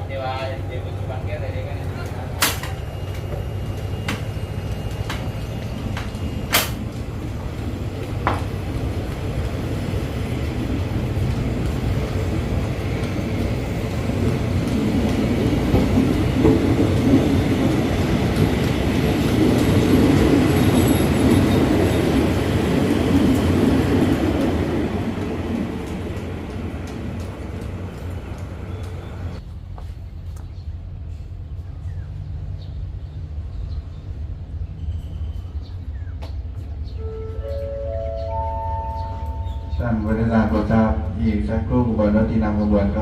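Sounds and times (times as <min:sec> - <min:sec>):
diesel train rumbling past: 0:00.0 - 0:43.0.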